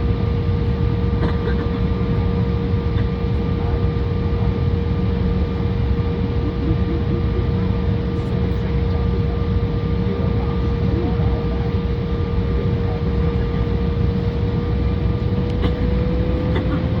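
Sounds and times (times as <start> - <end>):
jet engine rumble: 0.0 - 17.0
mid-pitched hum: 0.0 - 17.0.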